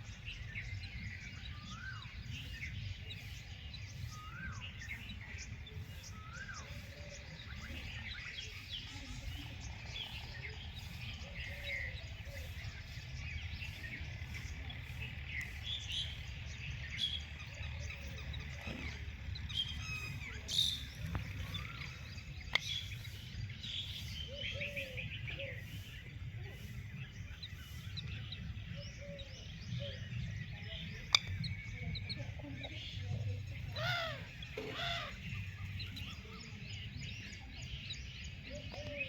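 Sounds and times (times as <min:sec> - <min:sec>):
low steady rumble: 0:00.0 - 0:38.7
birds chirping: 0:00.0 - 0:39.0.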